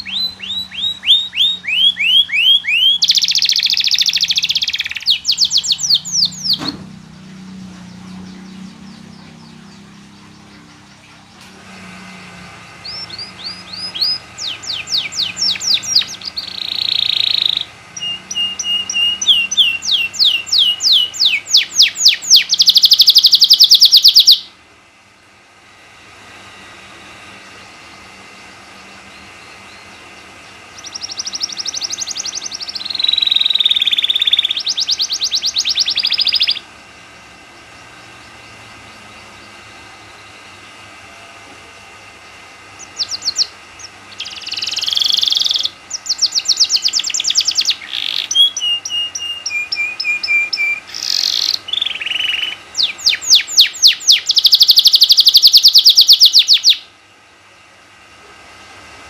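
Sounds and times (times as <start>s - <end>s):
canary singing trills: 0.0s - 24.6s, 26.0s - 41.0s, 42.0s - 57.0s.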